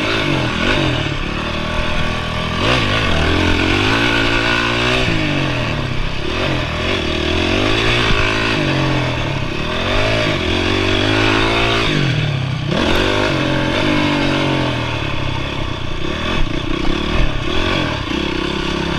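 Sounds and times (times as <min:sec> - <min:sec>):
motocross engine revving: 0:00.0 - 0:18.9.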